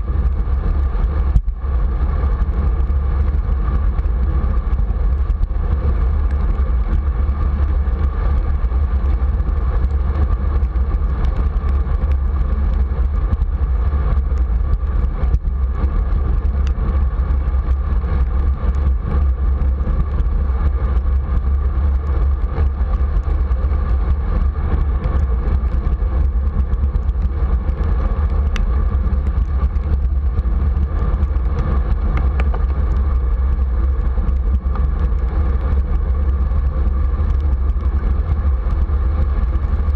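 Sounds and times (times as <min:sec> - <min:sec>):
wind rumble on microphone: 0:00.0 - 0:39.9
bicycle riding on wet road: 0:02.0 - 0:39.9.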